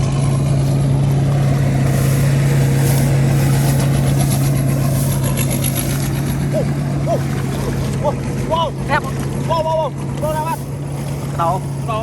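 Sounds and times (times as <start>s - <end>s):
small engine droning: 0.0s - 12.0s.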